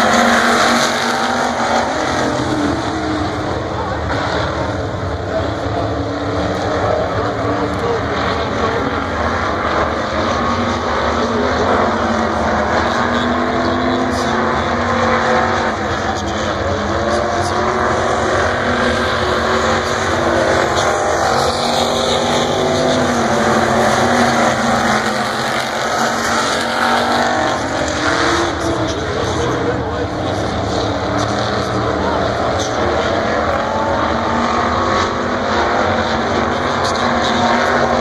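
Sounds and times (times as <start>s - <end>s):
race car engines running hard: 0.0s - 38.0s.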